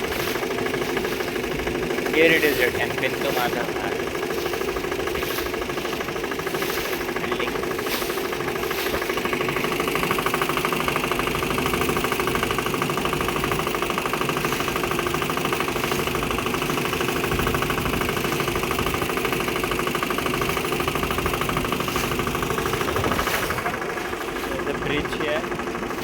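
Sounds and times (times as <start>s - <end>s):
boat engine chugging: 0.0s - 26.0s.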